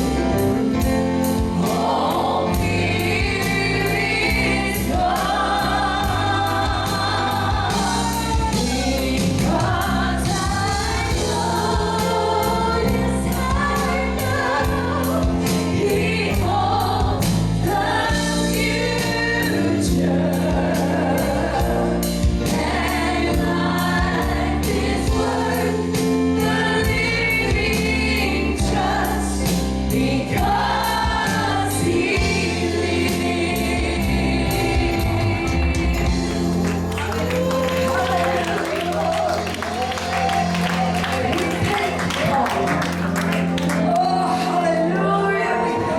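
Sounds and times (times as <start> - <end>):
band with bass and drums: 0.0 - 45.2
choir singing a worship song: 0.0 - 45.9.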